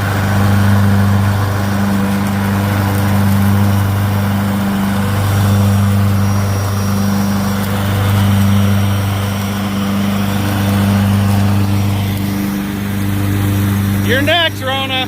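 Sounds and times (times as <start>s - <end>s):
riding lawn mower engine: 0.0s - 15.0s.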